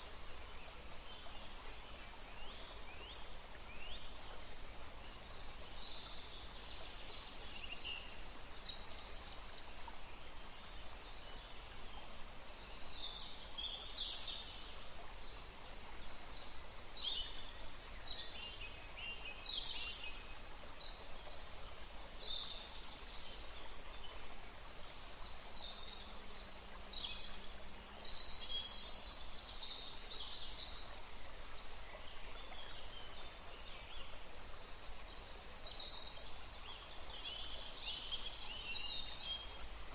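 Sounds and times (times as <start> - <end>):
faint background hiss: 0.0 - 39.9
songbirds singing and calling: 0.0 - 39.9.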